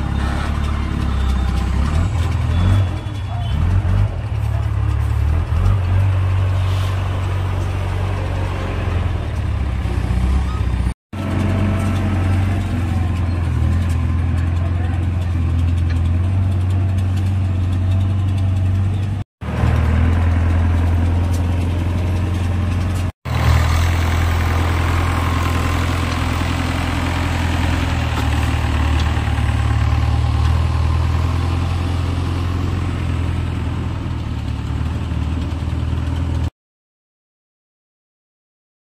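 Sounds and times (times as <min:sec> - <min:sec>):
diesel engine running: 0:00.0 - 0:36.5.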